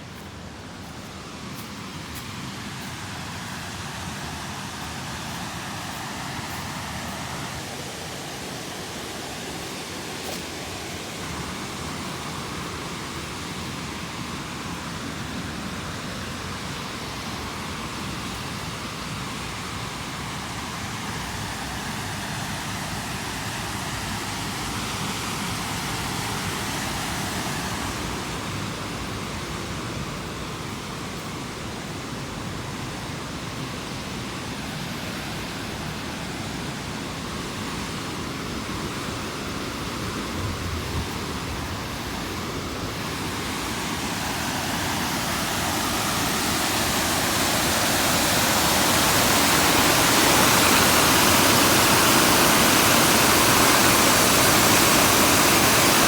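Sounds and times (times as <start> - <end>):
steady outdoor rushing noise: 0.0 - 56.0.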